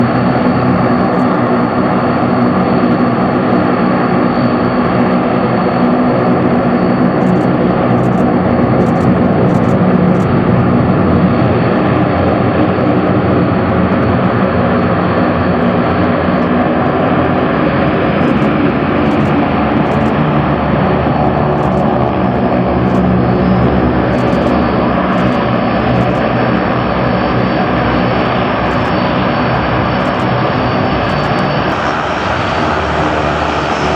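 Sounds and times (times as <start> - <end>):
cargo aircraft engines droning: 0.0 - 33.9.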